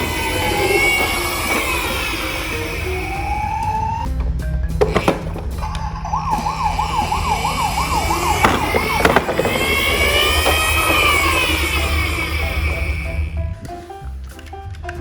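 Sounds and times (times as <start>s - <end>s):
emergency vehicle siren: 0.0s - 4.1s, 5.0s - 13.4s.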